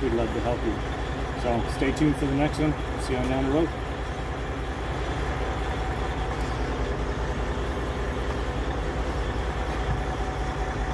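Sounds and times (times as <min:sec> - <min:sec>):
diesel truck engine idling: 0:00.0 - 0:10.9.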